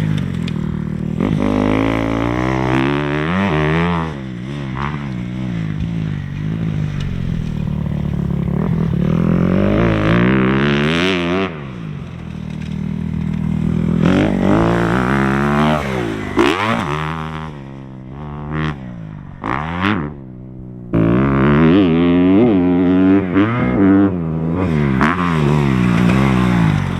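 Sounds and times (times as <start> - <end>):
dirt bike engine revving: 0.7 - 26.9.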